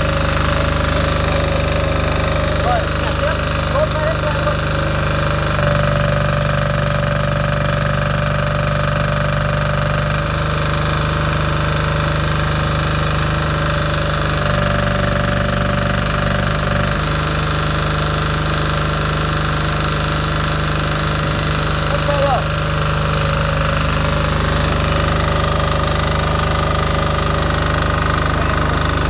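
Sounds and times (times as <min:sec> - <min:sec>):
diesel generator running: 0:00.0 - 0:29.0.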